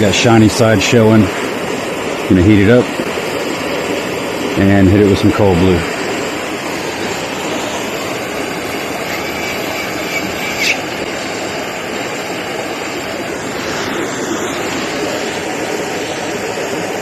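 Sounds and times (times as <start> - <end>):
heating tool hissing: 0.0 - 17.0.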